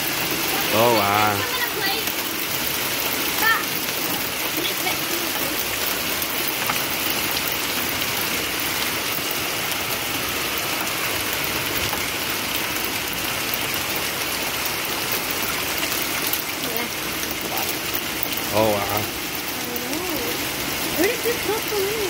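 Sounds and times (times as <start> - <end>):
hailstones ticking on metal: 0.0 - 22.0
heavy rain hiss: 0.0 - 22.0.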